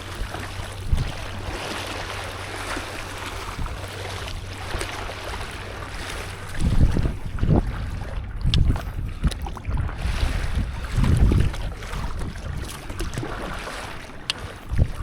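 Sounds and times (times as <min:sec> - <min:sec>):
sea water splashing: 0:00.0 - 0:15.0
wind buffeting microphone: 0:00.0 - 0:15.0.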